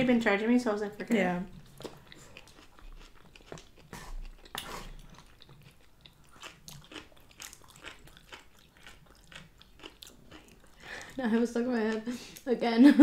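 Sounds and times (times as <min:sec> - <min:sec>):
people chewing crunchy food: 0:01.1 - 0:12.5.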